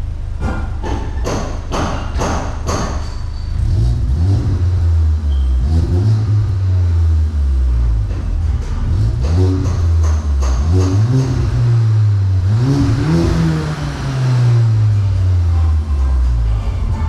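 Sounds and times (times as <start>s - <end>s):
deep car exhaust rumble revving: 0.0s - 17.0s
sharp evenly spaced thumps: 0.4s - 5.2s, 5.9s - 16.5s.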